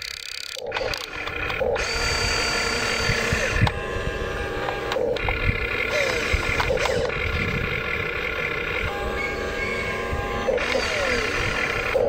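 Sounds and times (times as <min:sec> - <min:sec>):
toy excavator motors whining: 0:00.0 - 0:12.0.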